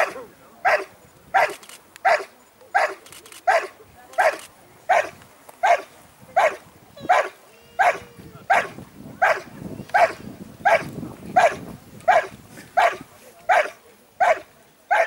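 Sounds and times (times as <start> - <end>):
dog barking sharply: 0.0 - 15.0.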